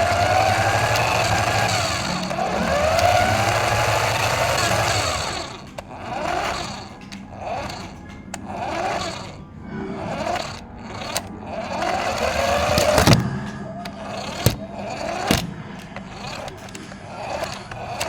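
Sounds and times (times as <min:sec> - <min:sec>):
sharp clicks: 0:00.0 - 0:18.0
toy car motor whining: 0:00.0 - 0:18.0.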